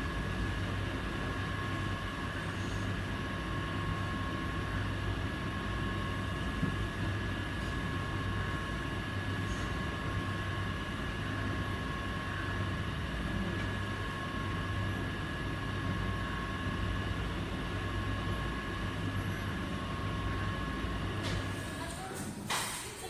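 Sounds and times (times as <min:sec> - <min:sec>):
low hum with rumble: 0:00.0 - 0:21.8.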